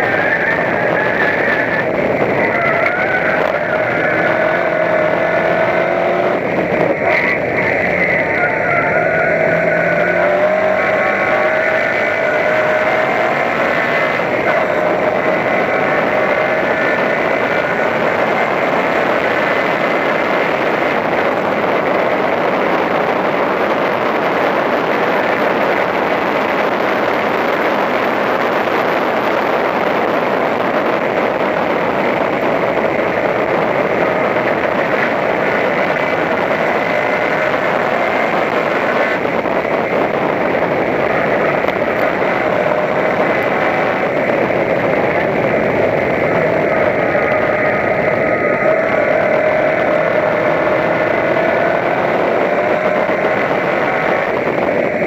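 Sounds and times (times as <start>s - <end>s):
race car engine: 0.0s - 55.0s
wind and road noise: 0.0s - 55.0s.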